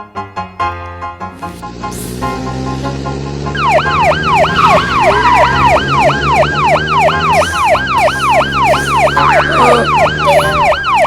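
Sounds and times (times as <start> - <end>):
background music: 0.0 - 11.0
police siren yelping: 1.4 - 11.0.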